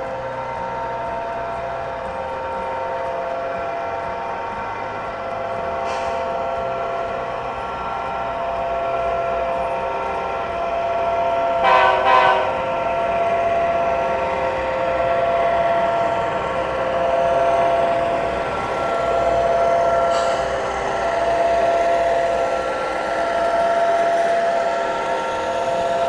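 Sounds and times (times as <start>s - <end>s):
model diesel engine drone: 0.0s - 26.0s
train horn blasts: 0.0s - 26.0s.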